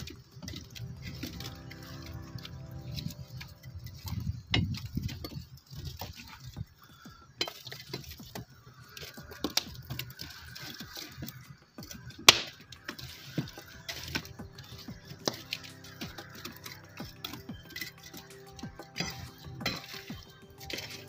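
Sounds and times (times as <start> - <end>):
wood fire crackling and popping: 0.0 - 21.0
metal poker knocking logs: 4.0 - 21.0.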